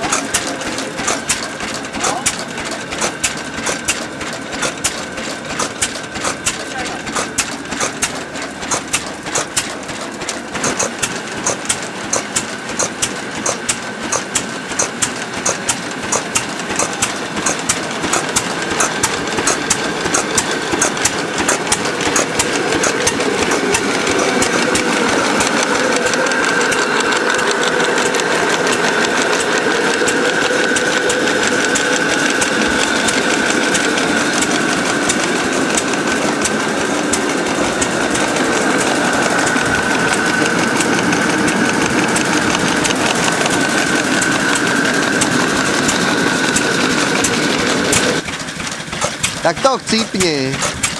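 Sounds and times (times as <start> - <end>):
grain mill grinding whine: 0.0 - 48.5
stationary engine running: 0.0 - 50.9.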